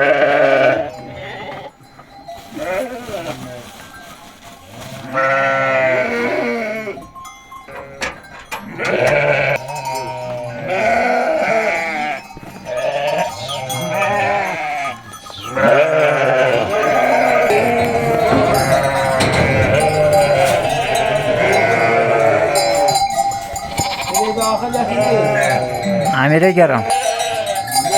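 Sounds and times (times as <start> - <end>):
sheep bleating: 0.0 - 1.8, 5.1 - 7.1, 7.7 - 27.9.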